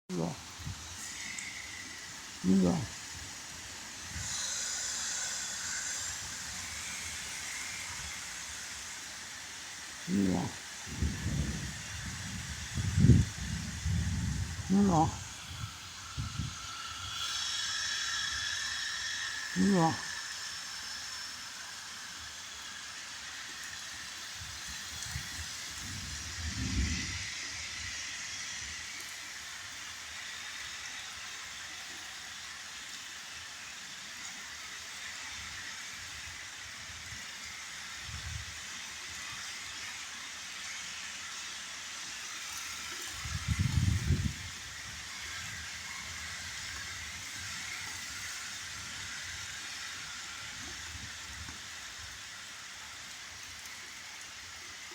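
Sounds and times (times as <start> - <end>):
steady rain falling: 0.1 - 54.9.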